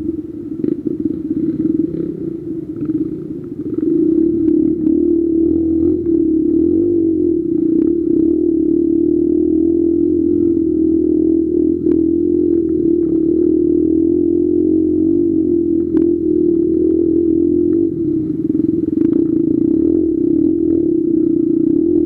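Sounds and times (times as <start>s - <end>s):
dirt motorcycle engine running: 0.0s - 22.0s.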